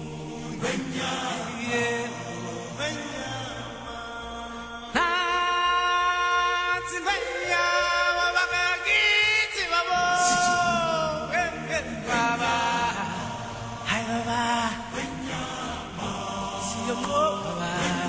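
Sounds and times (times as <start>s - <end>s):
person singing with vibrato: 0.0s - 18.0s.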